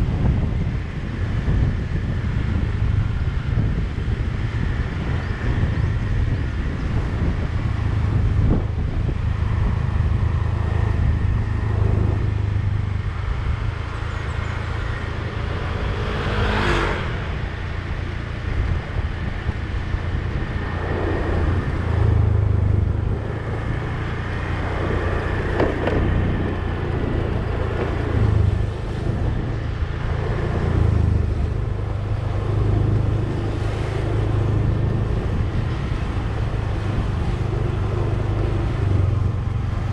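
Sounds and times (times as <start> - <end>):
low engine rumble: 0.0 - 39.9
road noise from driving vehicle: 0.0 - 39.9.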